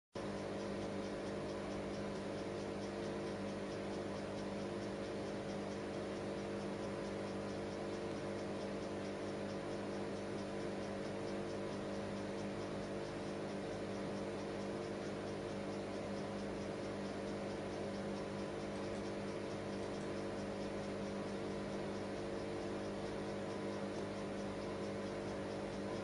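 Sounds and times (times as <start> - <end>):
steady machine hum: 0.2 - 26.0.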